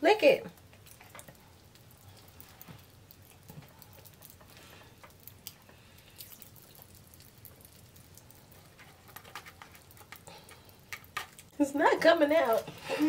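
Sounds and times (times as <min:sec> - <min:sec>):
popping candy crackling: 0:00.0 - 0:13.0.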